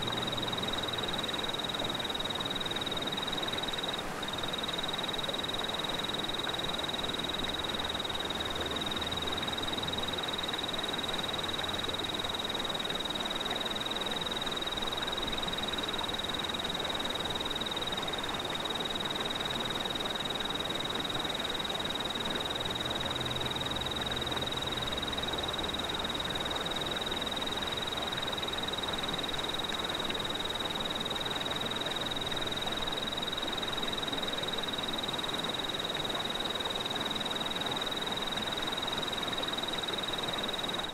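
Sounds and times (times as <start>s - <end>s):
chorus of night animals: 0.0s - 40.9s
constant hiss: 0.0s - 40.9s.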